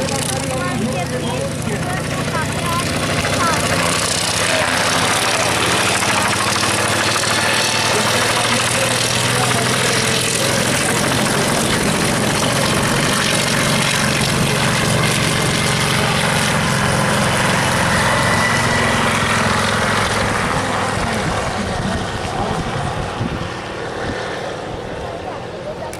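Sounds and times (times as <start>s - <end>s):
propeller aircraft engine: 0.0s - 25.9s.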